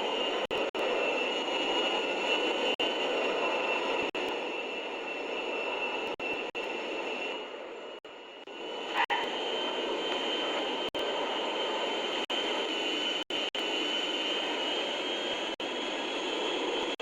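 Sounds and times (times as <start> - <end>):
aircraft engine whine: 0.0 - 17.0.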